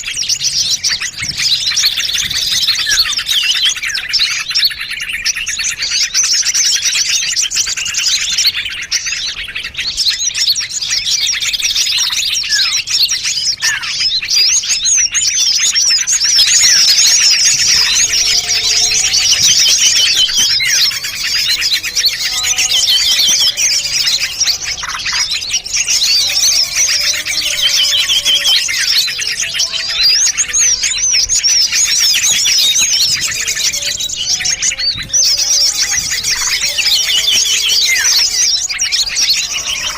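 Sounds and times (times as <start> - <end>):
low whistled bird notes: 0.0 - 39.9
songbirds chirping and twittering: 0.0 - 39.9.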